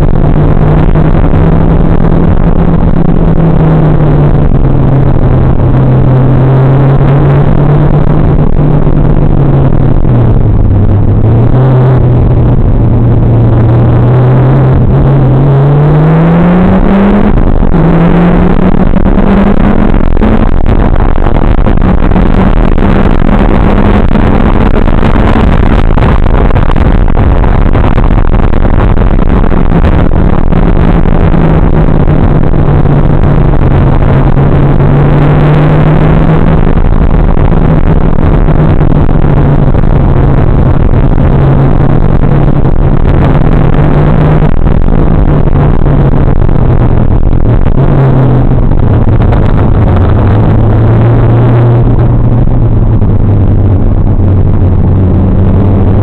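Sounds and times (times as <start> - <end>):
distorted car engine drone: 0.0 - 56.0.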